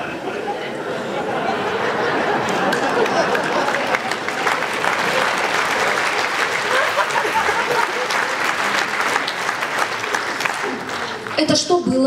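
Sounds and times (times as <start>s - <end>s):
voices in crowd: 0.0s - 12.0s
audience applauding: 1.3s - 11.6s.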